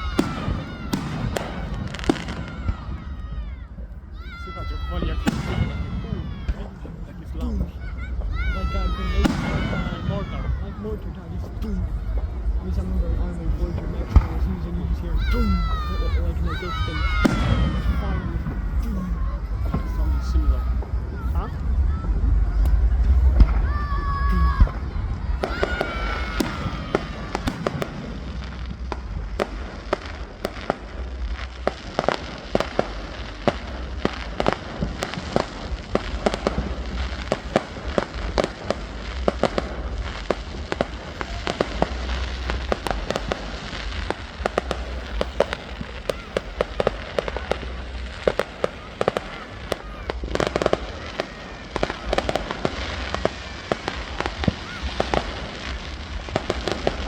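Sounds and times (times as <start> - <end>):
fireworks bangs and crackles: 0.0 - 57.0
low rumble: 0.0 - 57.0.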